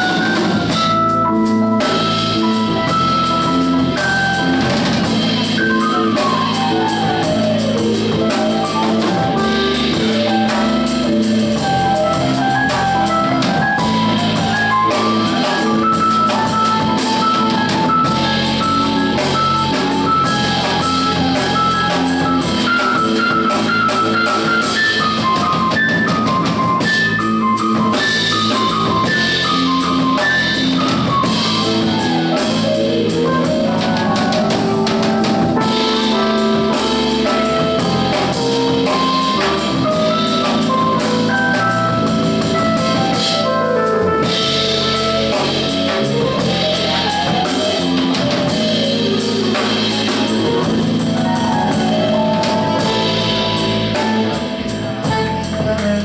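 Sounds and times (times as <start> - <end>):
drum kit with steady cymbals: 0.0 - 56.0
electric bass: 0.0 - 56.0
electric piano solo: 0.0 - 56.0.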